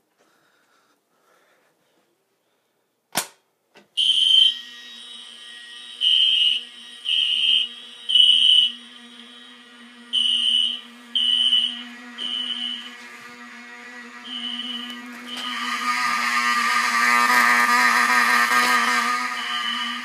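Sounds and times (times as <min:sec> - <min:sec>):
fire alarm horn blasts: 0:04.0 - 0:20.0.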